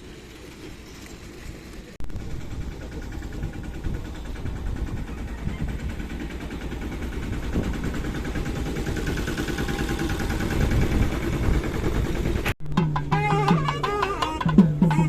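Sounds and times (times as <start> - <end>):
train rumbling on track: 0.0 - 12.6.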